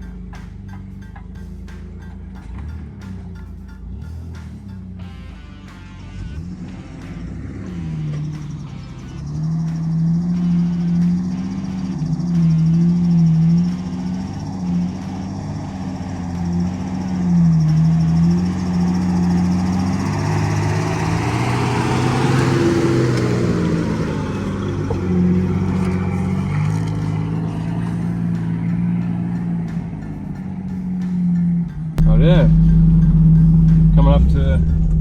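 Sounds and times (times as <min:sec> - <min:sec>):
off-road engine under load: 0:00.0 - 0:35.0.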